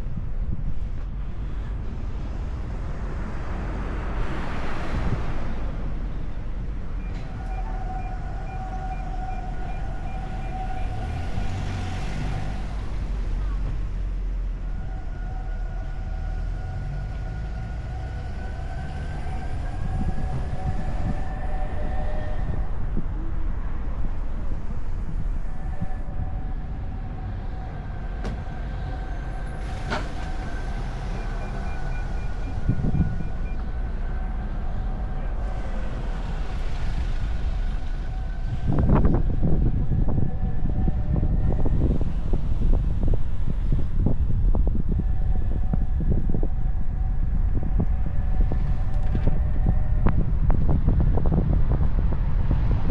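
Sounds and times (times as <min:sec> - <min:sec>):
car road and engine rumble: 0:00.0 - 0:52.9.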